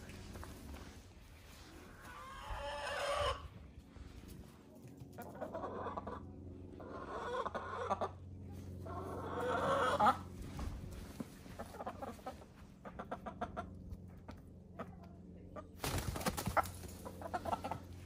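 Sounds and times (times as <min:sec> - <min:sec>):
hens clucking: 0:01.7 - 0:03.6, 0:04.7 - 0:18.0.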